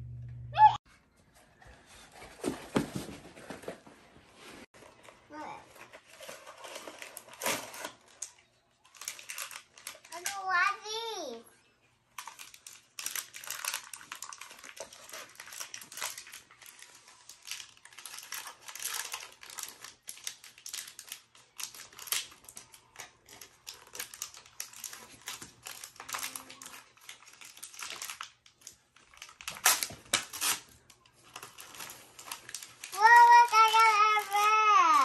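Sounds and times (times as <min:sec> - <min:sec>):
plastic wrapper crinkling: 0:04.7 - 0:10.7, 0:12.1 - 0:35.0.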